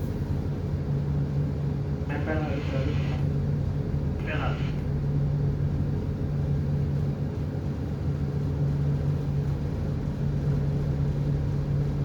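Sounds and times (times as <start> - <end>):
marine diesel engine humming: 0.0 - 12.0.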